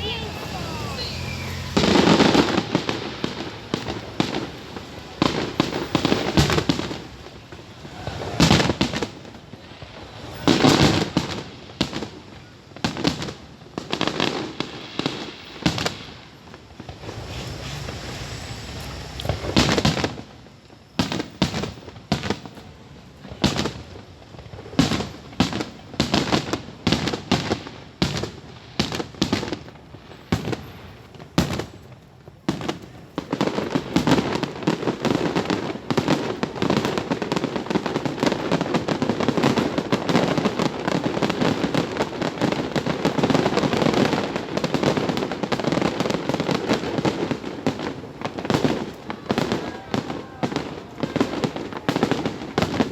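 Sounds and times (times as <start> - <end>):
fireworks banging and crackling: 0.0 - 52.9.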